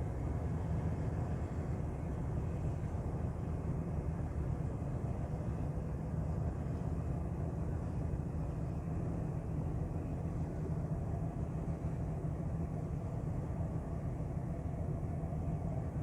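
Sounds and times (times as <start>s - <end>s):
ship engine rumbling: 0.0s - 16.0s.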